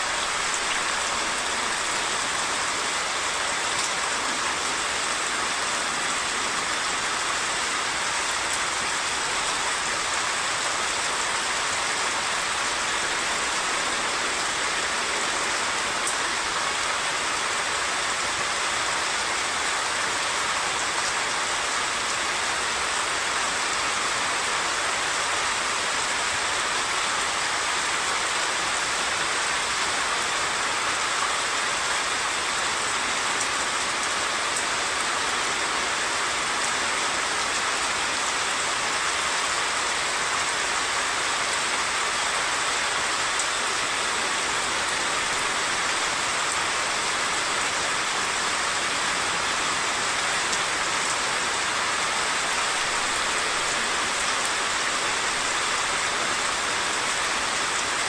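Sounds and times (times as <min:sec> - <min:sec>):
heavy rain hiss: 0:00.0 - 0:58.0
rushing flooded stream: 0:00.0 - 0:58.0.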